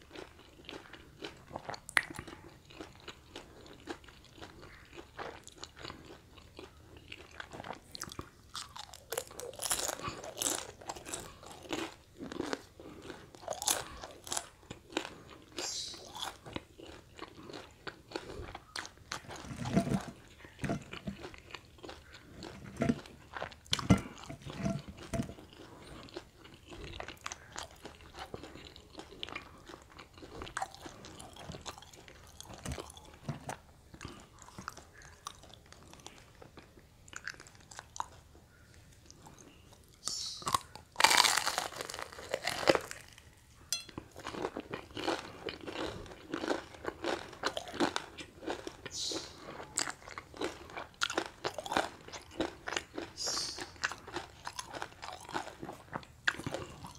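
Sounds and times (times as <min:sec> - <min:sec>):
crunching and chewing fried snacks: 0:00.0 - 0:56.9.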